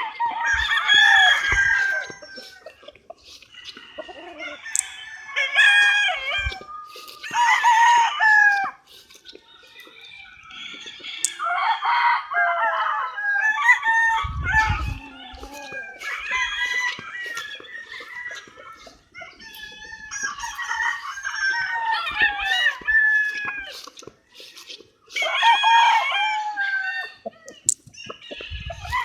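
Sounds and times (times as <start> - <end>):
chickens clucking: 0.0 - 29.0
roosters crowing: 0.0 - 29.0.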